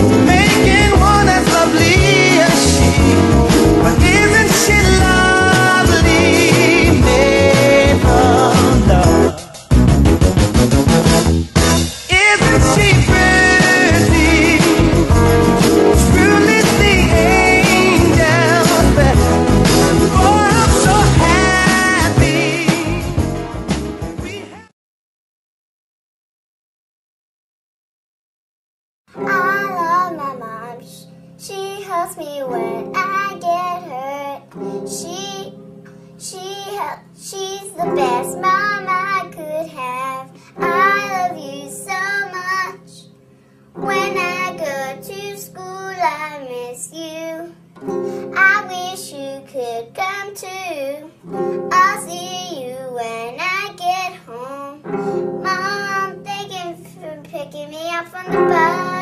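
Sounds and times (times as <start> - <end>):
girl singing: 0.0 - 3.2, 3.8 - 9.7, 12.1 - 15.2, 16.0 - 19.2, 20.1 - 23.2, 29.1 - 35.6, 36.2 - 59.0
acoustic guitar strumming: 0.0 - 24.7, 29.1 - 59.0.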